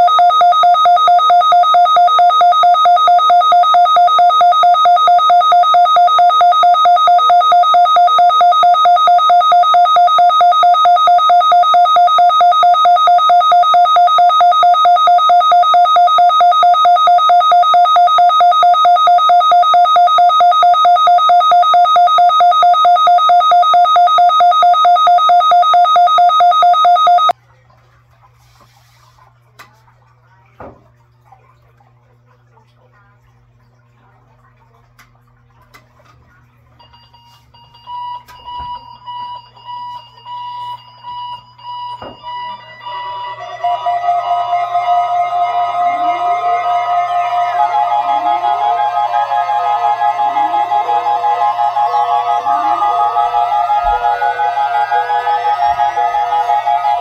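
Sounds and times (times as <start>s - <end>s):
pulsing two-tone alarm beep: 0.0s - 27.4s, 36.8s - 57.0s.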